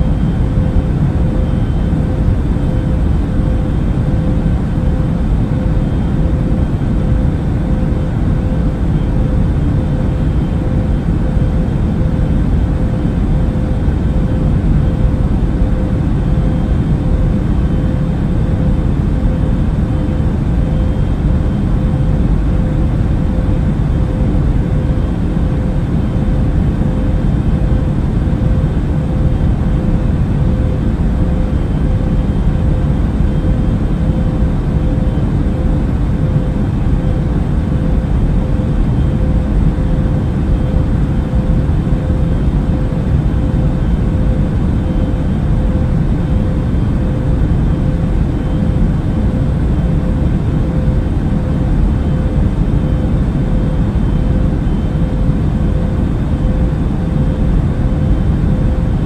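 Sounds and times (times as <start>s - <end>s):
airplane engine rumble: 0.0s - 59.0s.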